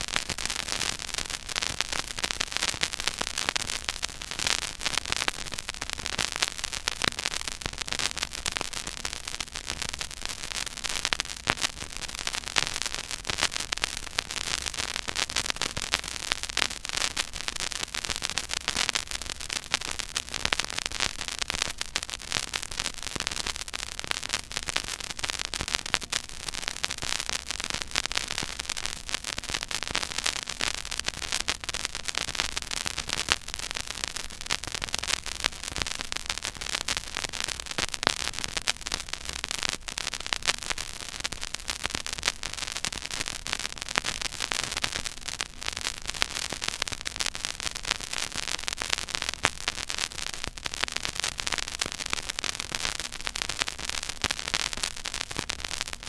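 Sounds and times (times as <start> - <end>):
vinyl record surface crackle: 0.0 - 56.0.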